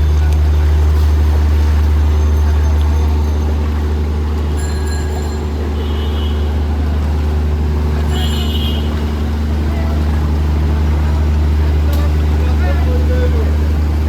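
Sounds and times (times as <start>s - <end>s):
heavy engine humming: 0.0s - 14.0s.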